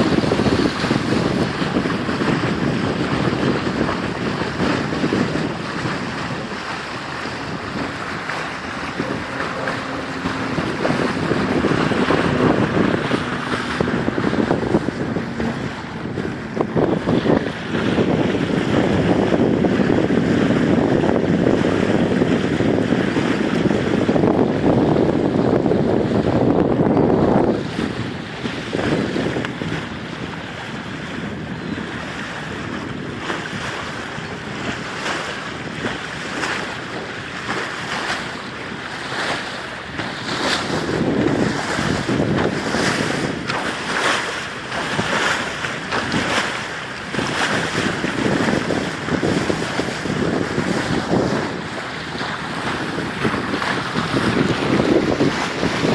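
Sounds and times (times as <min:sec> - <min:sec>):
water splashing around boat: 0:00.0 - 0:55.9
wind buffeting microphone: 0:00.0 - 0:55.9.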